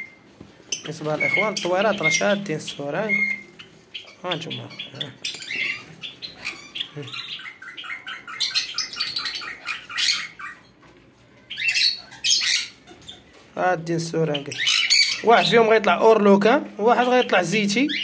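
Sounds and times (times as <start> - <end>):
bird chicks squawking: 0.0 - 18.0.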